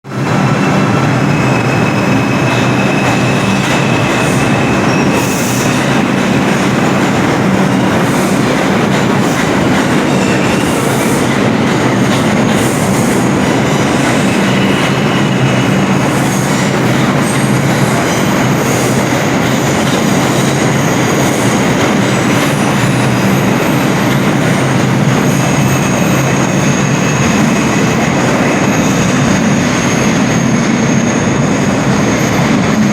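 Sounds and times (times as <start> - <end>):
train wheels rumbling on rails: 0.0 - 32.9
high squealing tones: 0.4 - 32.8.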